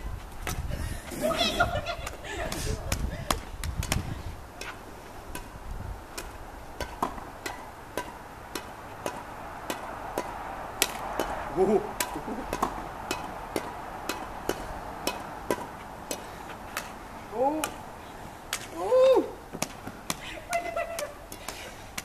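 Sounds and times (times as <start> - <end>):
rackets striking shuttlecock: 1.9 - 17.8, 19.4 - 22.0.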